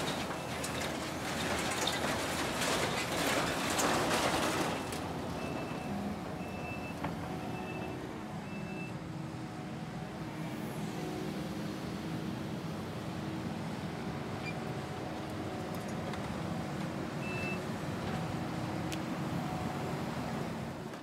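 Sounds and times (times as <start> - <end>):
skid steer working: 0.0 - 21.0.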